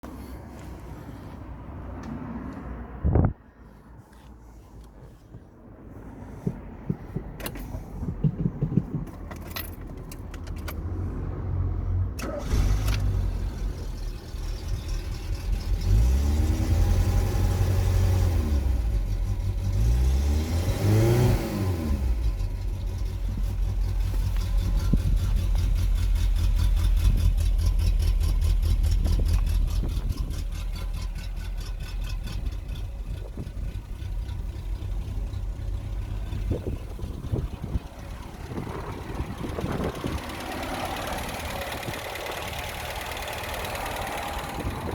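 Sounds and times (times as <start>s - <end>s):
van engine revving and idling: 4.5s - 44.9s
engine clicks and rattles: 6.3s - 11.2s, 12.1s - 20.2s, 21.1s - 44.9s.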